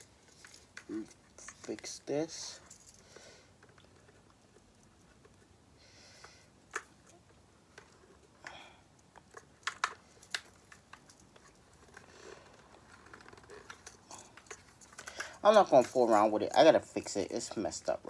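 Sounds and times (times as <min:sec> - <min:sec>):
helmet hardware clicks and rattles: 0:00.0 - 0:05.4, 0:06.7 - 0:18.0.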